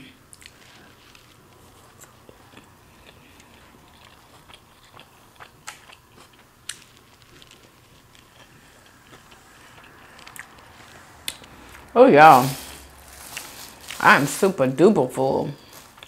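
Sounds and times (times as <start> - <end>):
person chewing: 0.2 - 11.9, 12.6 - 14.1, 15.6 - 16.0.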